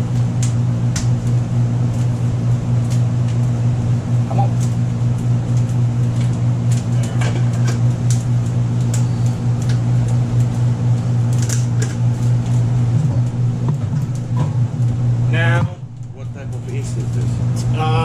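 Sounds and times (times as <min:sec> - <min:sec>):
kitchen equipment humming: 0:00.0 - 0:18.0.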